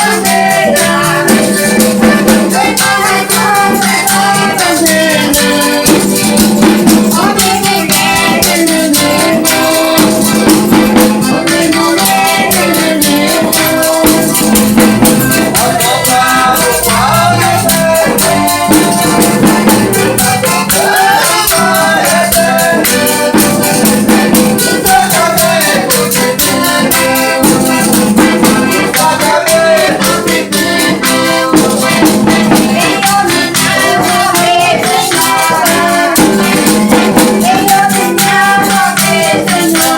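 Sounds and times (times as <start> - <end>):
rattles and tambourine shaking: 0.0 - 39.9
voices singing folk melody: 0.0 - 39.9.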